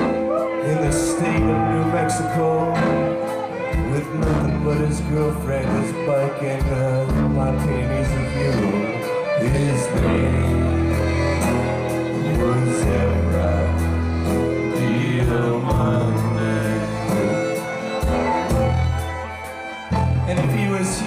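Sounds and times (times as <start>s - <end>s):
live band playing: 0.0s - 21.0s
person singing: 0.0s - 21.0s.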